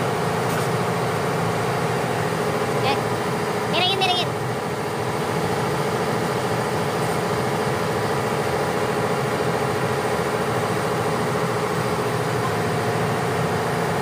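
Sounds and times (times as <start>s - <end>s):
engine room machinery hum: 0.0s - 14.0s.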